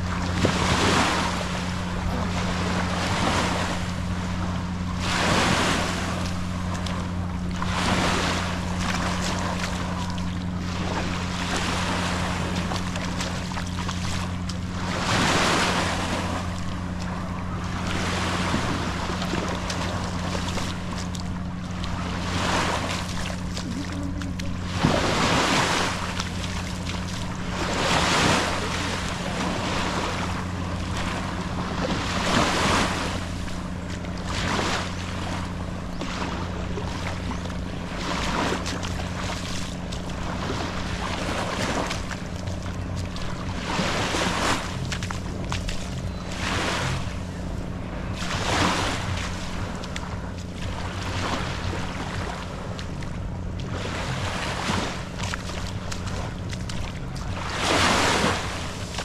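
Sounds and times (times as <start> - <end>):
small waves lapping on shore: 0.0 - 59.0
steady low hum: 0.0 - 59.0.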